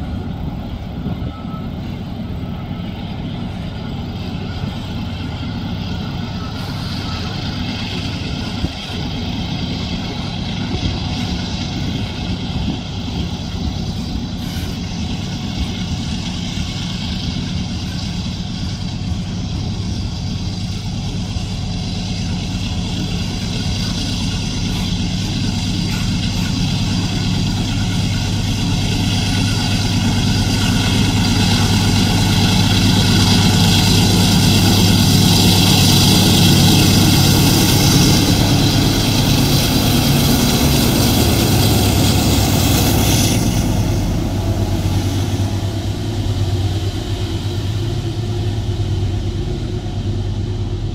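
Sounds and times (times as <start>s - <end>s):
diesel locomotives at full power: 0.0s - 50.9s.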